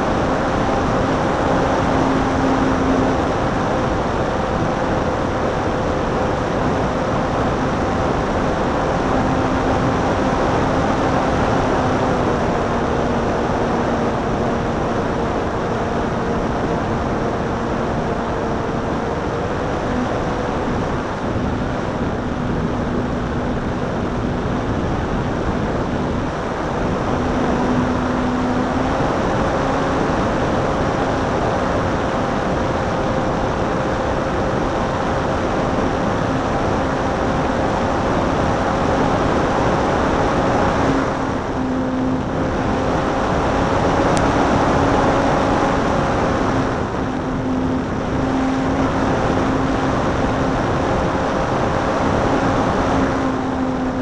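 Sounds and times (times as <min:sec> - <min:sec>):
electric motor and propeller humming: 0:00.0 - 0:54.0
wind rushing over microphone: 0:00.0 - 0:54.0.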